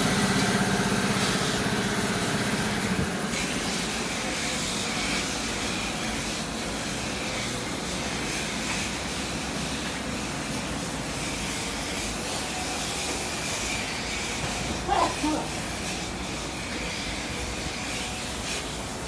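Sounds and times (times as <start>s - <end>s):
machine noise with hiss: 0.0s - 19.0s.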